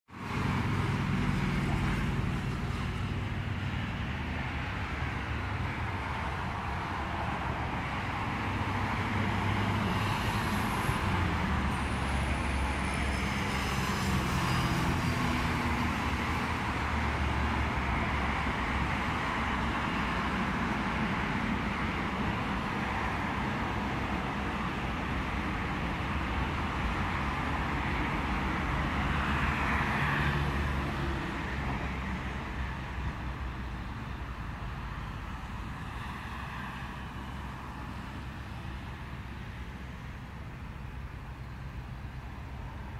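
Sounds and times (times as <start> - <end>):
road traffic rumble: 0.1 - 42.9.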